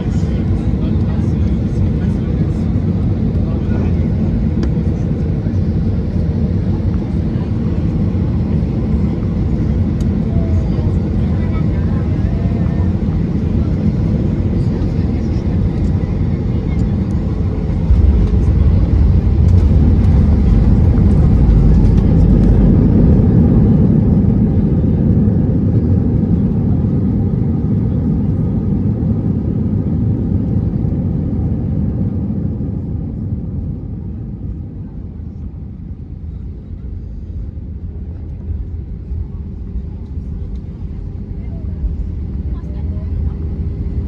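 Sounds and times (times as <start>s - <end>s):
aircraft engines rumbling: 0.0s - 44.0s.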